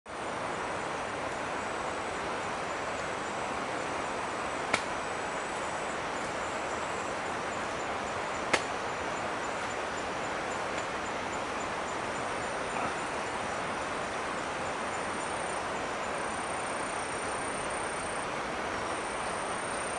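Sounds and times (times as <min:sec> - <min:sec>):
rainforest hiss: 0:00.1 - 0:19.9.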